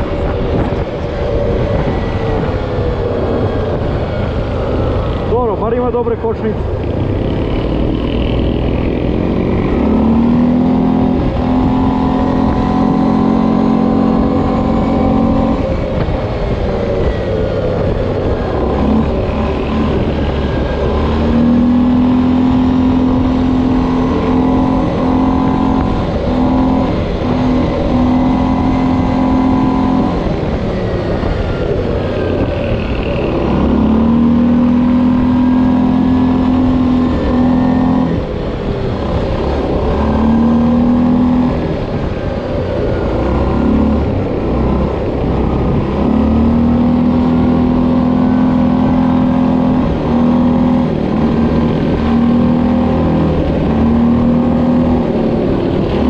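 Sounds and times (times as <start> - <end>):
atv engine running: 0.0 - 56.0
wind and ride noise: 0.0 - 56.0.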